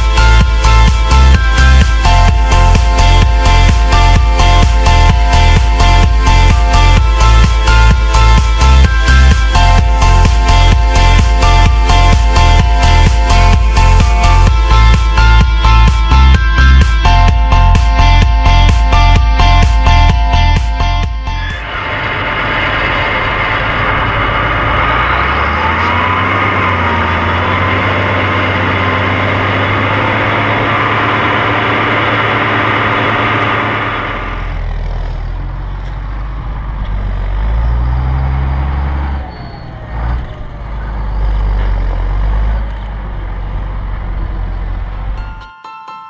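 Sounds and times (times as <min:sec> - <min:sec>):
tractor diesel engine running: 0:00.0 - 0:45.5.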